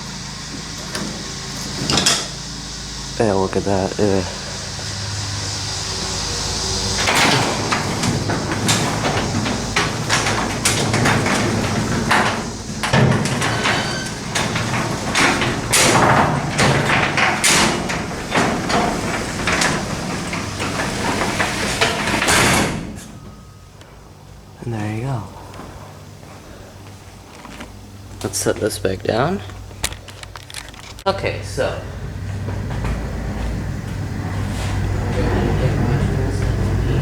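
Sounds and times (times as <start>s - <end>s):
garage door rattling and clanking: 0.0s - 37.0s.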